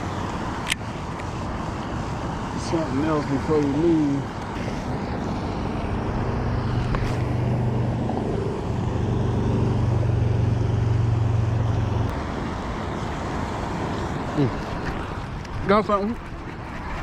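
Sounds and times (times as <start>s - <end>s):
low motor hum: 0.0s - 17.0s
wind-like noise: 0.0s - 17.0s.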